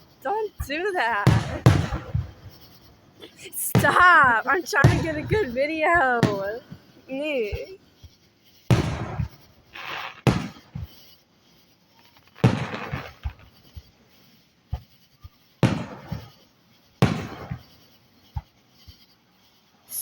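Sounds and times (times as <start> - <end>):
firework shells booming: 0.0 - 11.2, 12.1 - 15.0, 15.6 - 18.6
small firework pops: 0.0 - 20.0.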